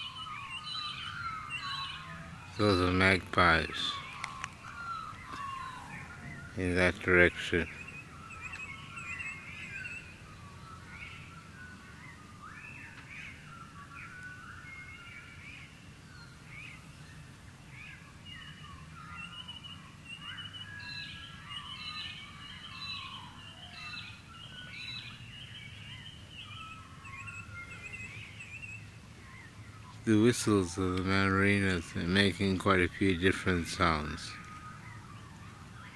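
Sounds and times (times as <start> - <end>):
birds whistling and chirping: 0.0 - 35.9.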